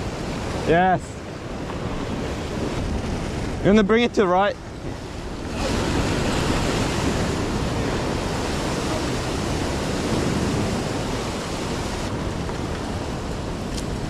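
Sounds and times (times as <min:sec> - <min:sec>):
waves breaking against rocks: 0:00.0 - 0:14.0.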